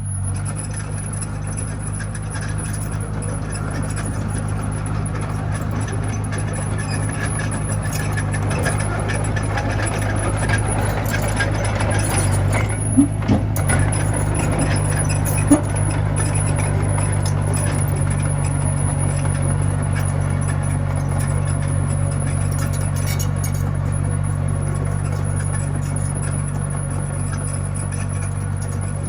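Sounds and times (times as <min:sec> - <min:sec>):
diesel engine droning: 0:00.0 - 0:29.0
faint clatter: 0:00.0 - 0:29.0.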